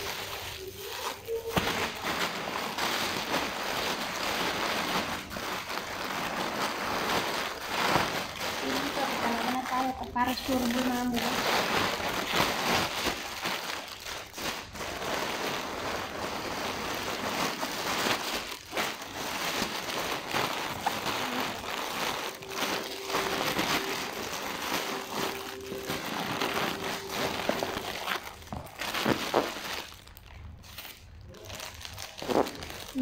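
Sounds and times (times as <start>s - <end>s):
plastic bag crinkling: 0.0s - 33.0s.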